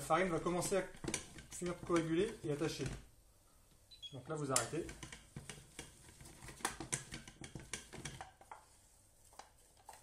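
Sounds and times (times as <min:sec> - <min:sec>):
wooden spoon scraping saucepan: 0:00.0 - 0:03.1, 0:04.4 - 0:10.0.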